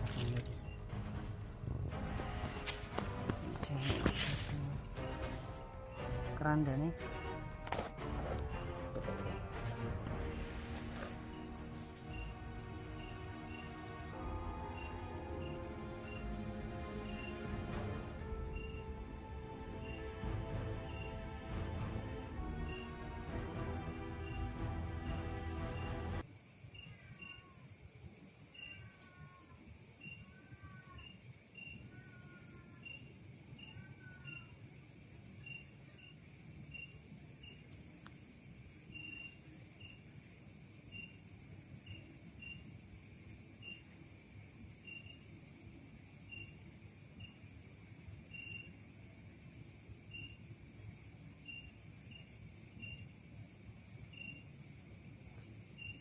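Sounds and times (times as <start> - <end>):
cricket chirping: 0.0 - 56.0.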